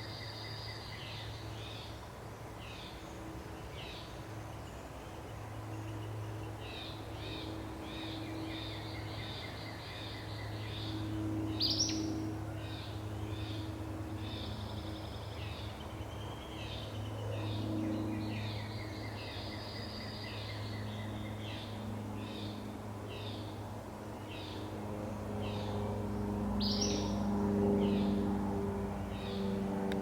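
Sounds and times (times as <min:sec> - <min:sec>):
steady low hum: 0:00.0 - 0:30.0
trilling birdsong: 0:02.6 - 0:23.6, 0:24.2 - 0:28.3, 0:29.0 - 0:30.0.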